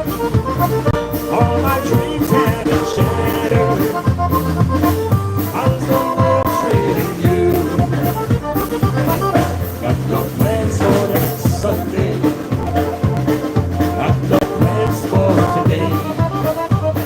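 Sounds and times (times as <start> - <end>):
drum kit beat: 0.0 - 17.0
polka band playing: 0.0 - 17.0.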